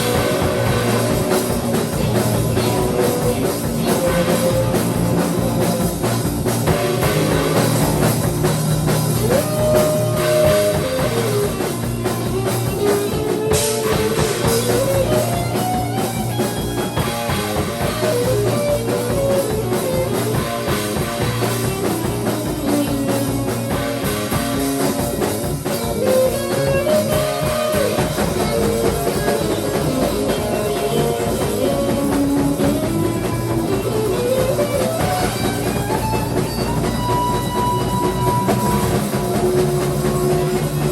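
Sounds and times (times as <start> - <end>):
drum kit beat: 0.0 - 40.9
sliding electric guitar line: 0.0 - 40.9.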